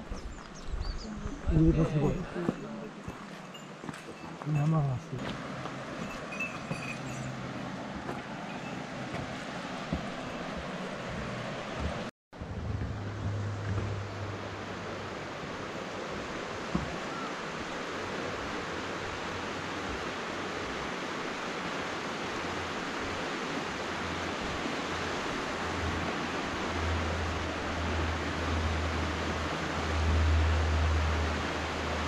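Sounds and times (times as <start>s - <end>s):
wind rumble on microphone: 0.0s - 2.4s, 5.1s - 32.0s
stream water rushing: 1.4s - 32.0s.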